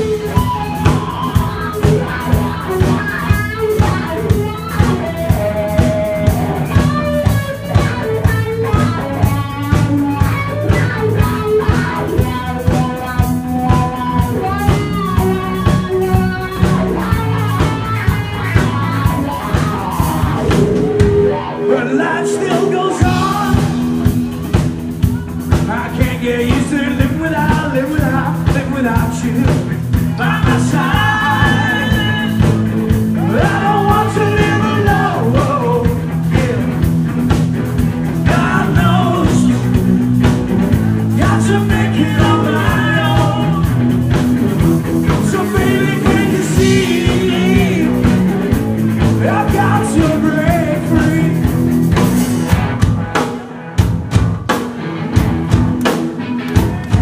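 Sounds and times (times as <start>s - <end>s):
lead guitar line bending: 0.0s - 57.0s
live rock band playing: 0.0s - 57.0s.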